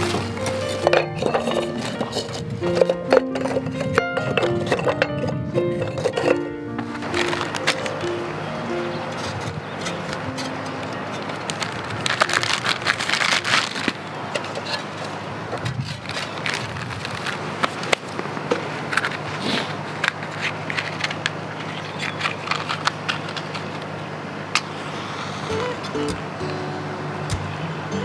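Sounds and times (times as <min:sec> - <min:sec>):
sticks rustling and scraping in grill: 0:00.0 - 0:08.1, 0:09.0 - 0:23.8.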